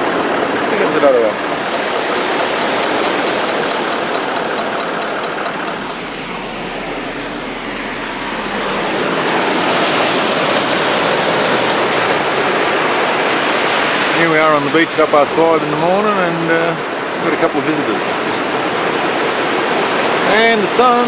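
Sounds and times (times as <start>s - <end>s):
surf breaking on beach: 0.0s - 21.0s.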